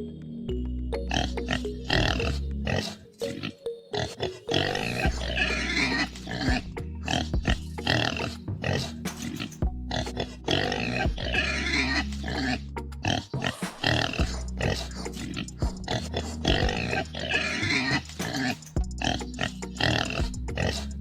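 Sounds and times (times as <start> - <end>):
background music with bass: 0.0 - 2.9, 4.6 - 21.0
pigs grunting and squealing: 1.0 - 21.0.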